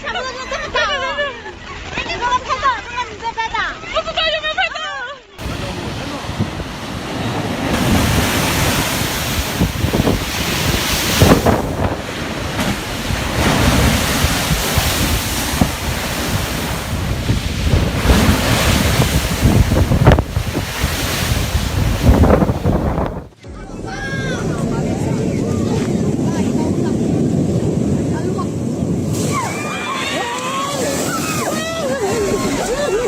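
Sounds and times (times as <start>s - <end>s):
ocean surf breaking: 5.4s - 33.0s
wind buffeting microphone: 5.4s - 33.0s.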